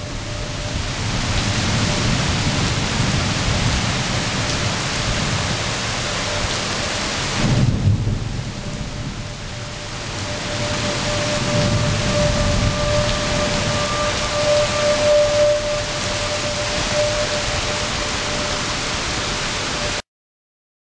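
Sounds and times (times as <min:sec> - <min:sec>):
faint warning siren tone: 0:00.0 - 0:20.0
heavy rain pouring: 0:00.0 - 0:20.0
thunder rumbling: 0:00.0 - 0:20.0.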